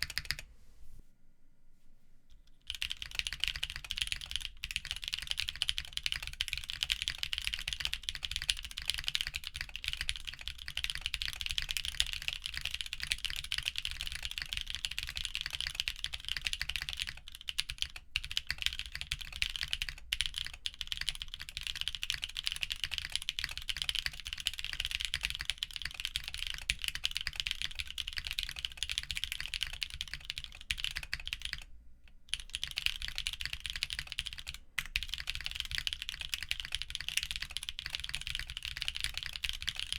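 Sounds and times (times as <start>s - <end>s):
fast typing on mechanical keyboard: 0.0s - 0.4s, 2.7s - 31.7s, 32.3s - 39.9s.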